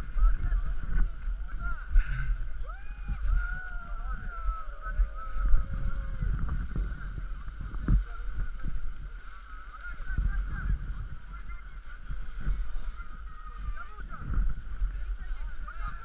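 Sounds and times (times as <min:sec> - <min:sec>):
wind rumble: 0:00.0 - 0:16.0.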